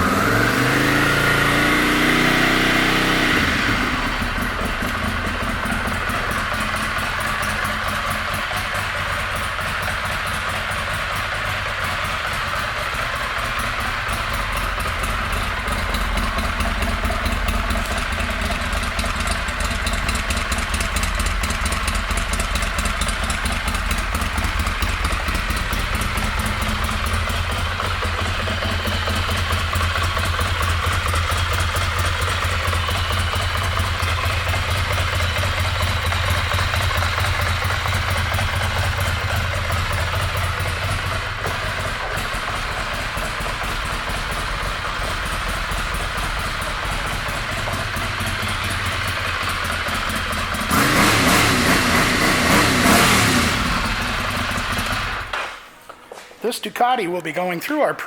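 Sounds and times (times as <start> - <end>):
motorcycle engine idling: 0.0 - 55.4.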